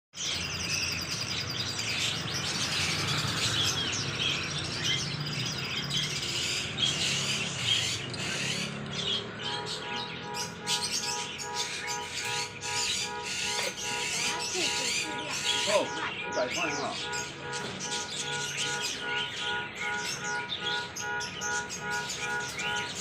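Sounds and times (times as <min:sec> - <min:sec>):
birds chirping and calling: 0:00.2 - 0:23.0.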